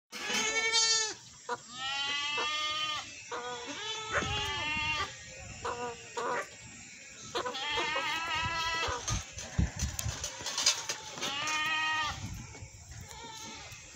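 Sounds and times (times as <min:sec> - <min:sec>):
goat bleating: 0:00.1 - 0:06.5, 0:07.3 - 0:09.9, 0:10.8 - 0:12.2, 0:13.0 - 0:13.9.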